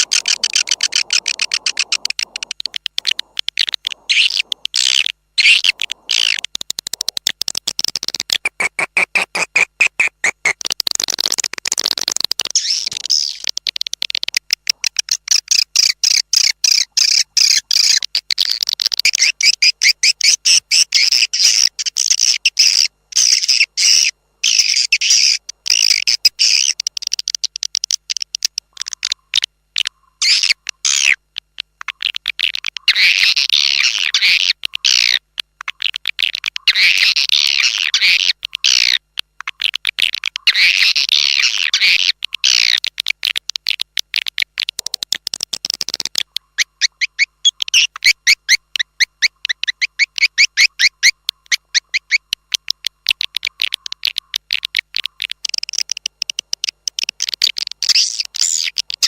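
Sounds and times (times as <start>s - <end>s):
high chirping bird calls: 0.0s - 43.8s, 45.6s - 59.0s.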